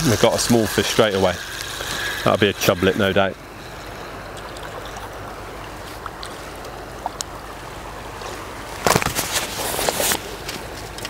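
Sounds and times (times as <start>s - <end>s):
river water flowing: 0.0s - 11.0s
water splashing and sloshing: 0.0s - 11.0s.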